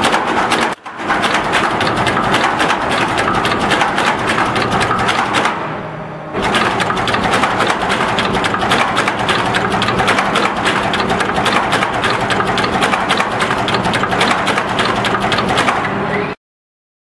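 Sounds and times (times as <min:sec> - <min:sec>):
machine clattering clicks: 0:00.0 - 0:05.7, 0:06.4 - 0:16.0
machine hum: 0:00.0 - 0:16.4.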